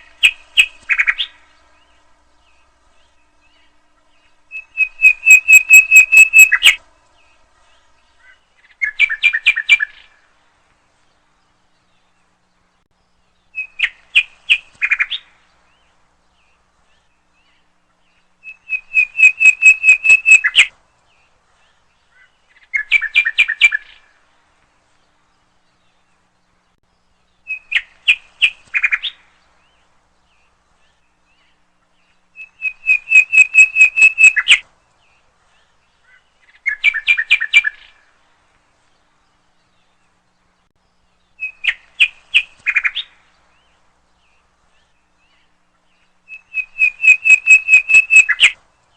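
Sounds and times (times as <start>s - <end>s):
nightingale singing: 0.0s - 6.8s, 8.1s - 10.3s, 11.2s - 24.2s, 25.7s - 38.2s, 39.0s - 48.9s.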